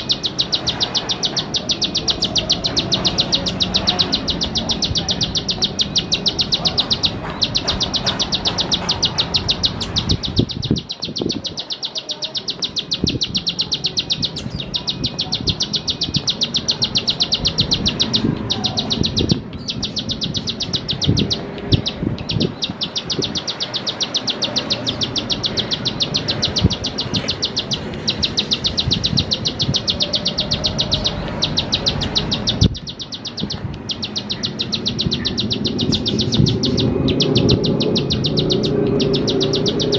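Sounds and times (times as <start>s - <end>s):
bird clicking song: 0.0s - 39.9s.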